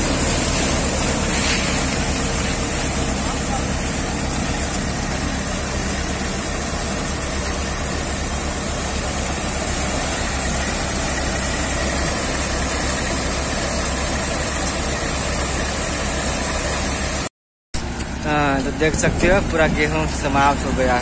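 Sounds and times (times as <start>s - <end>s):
thresher and tractor engine drone: 0.0s - 21.0s.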